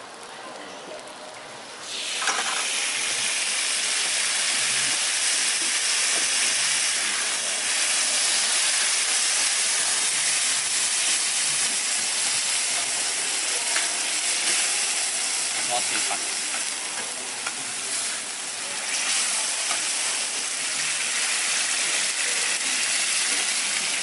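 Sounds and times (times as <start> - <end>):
sauce sizzling on a griddle: 1.8 - 24.0
metal spatula on griddle: 1.9 - 3.1, 4.6 - 22.6.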